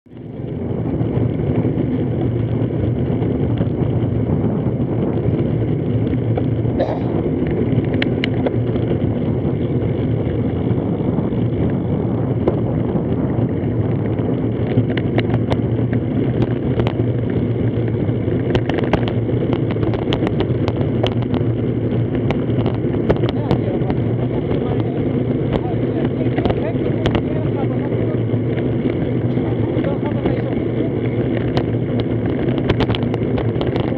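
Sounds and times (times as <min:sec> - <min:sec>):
bicycle tyre noise on asphalt: 0:00.1 - 0:33.9
wind rush on microphone: 0:00.1 - 0:33.9.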